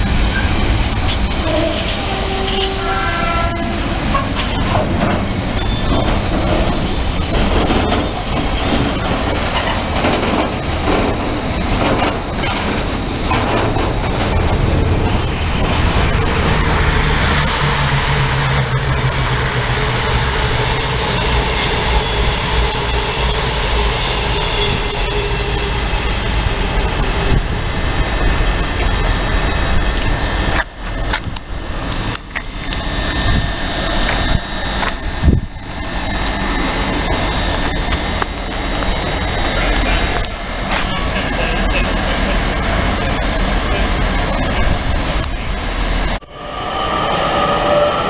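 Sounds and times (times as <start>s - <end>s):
train low rumble: 0.0s - 48.0s
train wheels clattering: 4.0s - 45.4s.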